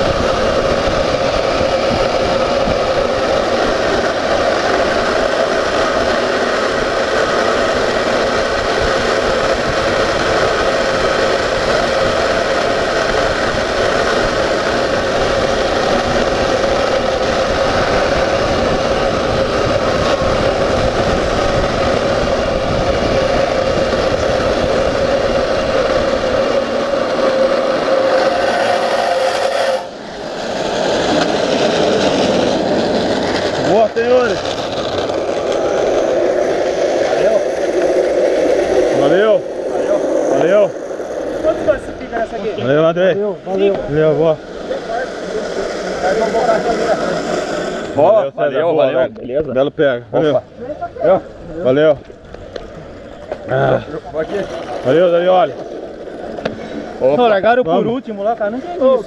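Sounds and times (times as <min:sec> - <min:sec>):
cart wheels rolling on asphalt: 0:00.0 - 0:59.0.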